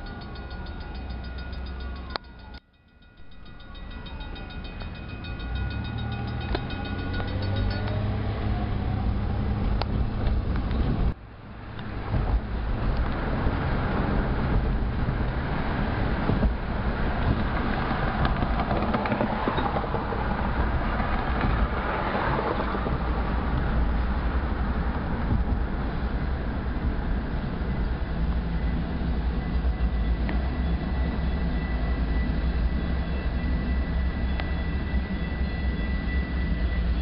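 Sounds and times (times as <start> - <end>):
freight train rumbling: 0.0 - 37.0
road traffic: 0.0 - 37.0.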